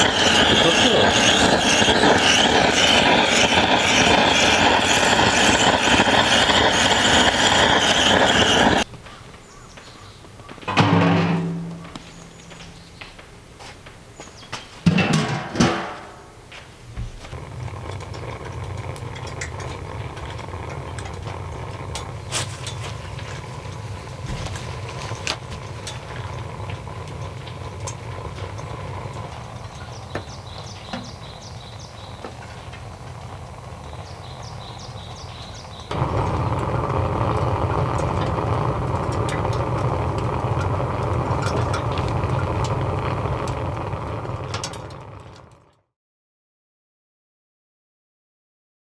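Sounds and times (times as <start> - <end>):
fire crackles and clicks: 0.0 - 10.7, 11.5 - 14.8, 16.4 - 45.8
stove fan hum: 0.0 - 45.8.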